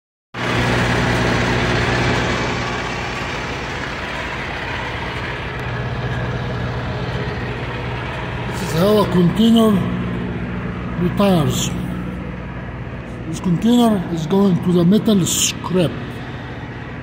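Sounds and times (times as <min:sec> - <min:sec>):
truck engine droning: 0:00.4 - 0:17.0.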